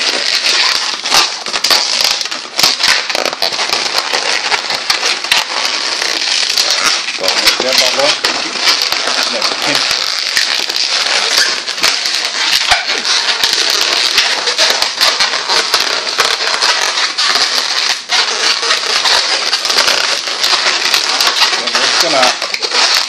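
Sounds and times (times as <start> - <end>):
balloons squeaking and crackling: 0.0 - 23.0.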